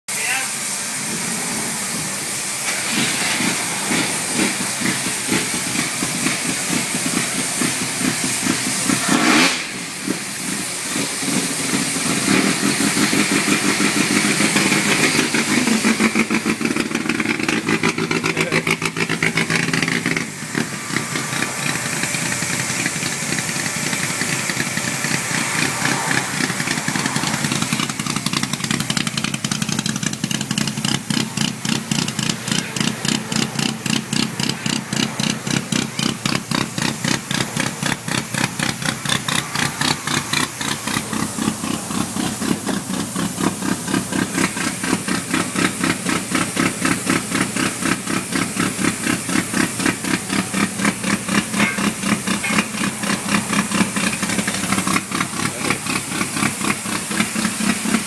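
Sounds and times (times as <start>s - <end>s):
race car engine revving: 0.2s - 58.0s.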